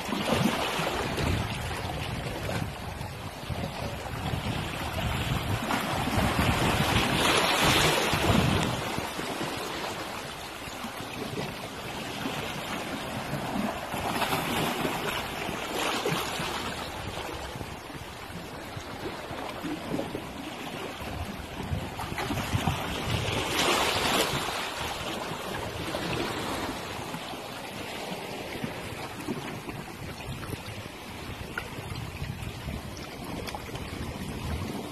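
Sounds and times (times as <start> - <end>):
wind buffeting microphone: 0.0 - 10.6, 12.4 - 27.3, 28.4 - 34.9
waves washing against rocks: 0.0 - 34.9.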